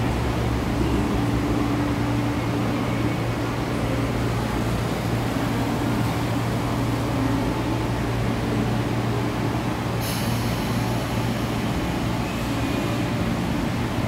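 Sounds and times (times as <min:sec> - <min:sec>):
electric train machinery hum: 0:00.0 - 0:14.0.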